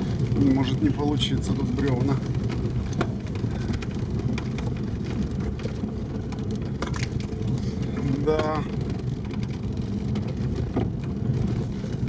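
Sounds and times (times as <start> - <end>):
clicks and knocks over bumps: 0.0 - 12.0
engine and tyres rumbling: 0.0 - 12.0.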